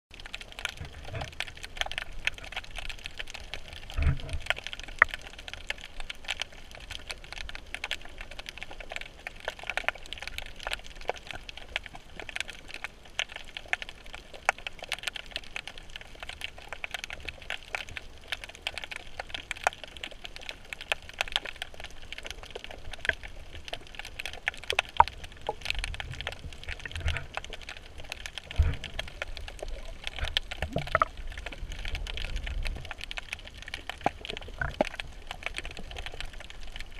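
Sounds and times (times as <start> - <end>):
underwater crackle of small clicks: 0.1 - 36.9.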